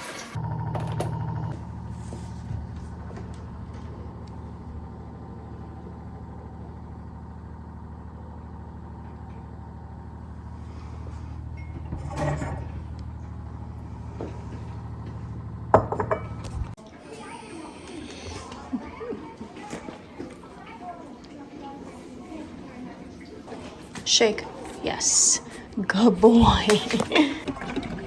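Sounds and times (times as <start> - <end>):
appliance electric hum: 0.0 - 28.0.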